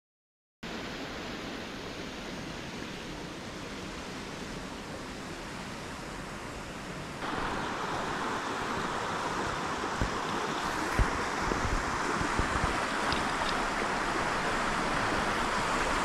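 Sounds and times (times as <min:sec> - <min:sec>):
stream rushing: 0:00.6 - 0:16.0.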